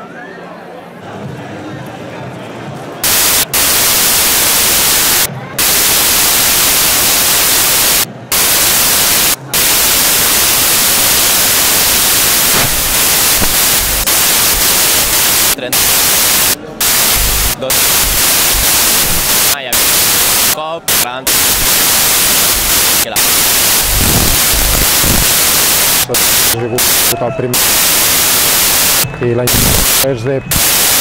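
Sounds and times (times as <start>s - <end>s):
static hiss: 3.0s - 31.0s.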